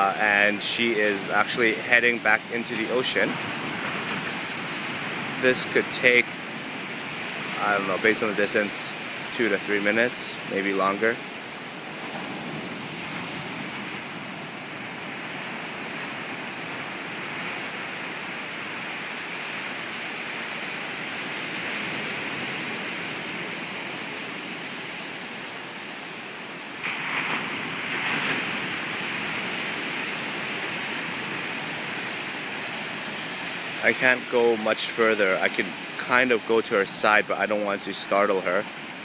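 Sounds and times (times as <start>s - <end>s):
ocean surf breaking on beach: 0.0s - 39.0s.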